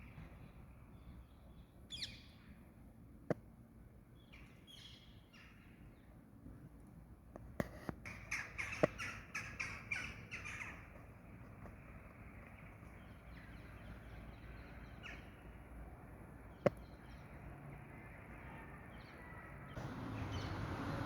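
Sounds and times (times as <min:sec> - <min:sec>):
faint birdsong: 0:00.0 - 0:21.0.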